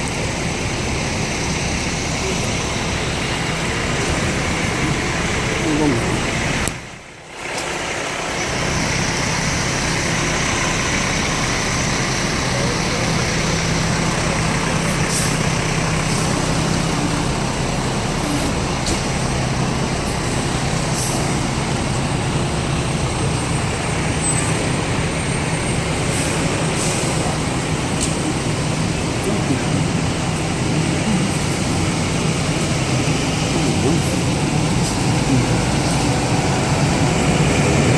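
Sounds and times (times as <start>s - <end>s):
city street traffic: 0.0s - 37.9s
diesel engine idling: 0.0s - 37.9s.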